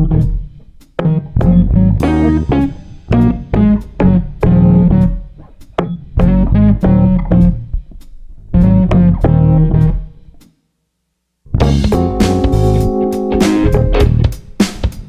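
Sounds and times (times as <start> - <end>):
plucked guitar and bass music: 0.0 - 10.3, 11.5 - 14.4
drums: 0.0 - 10.6, 11.5 - 15.0.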